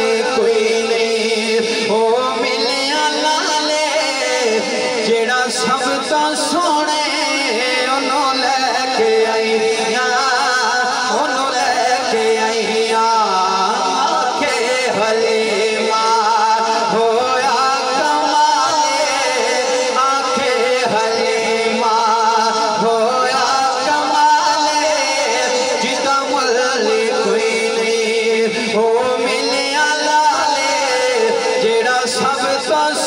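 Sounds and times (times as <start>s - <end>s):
man singing ornamented phrases: 0.0s - 33.0s.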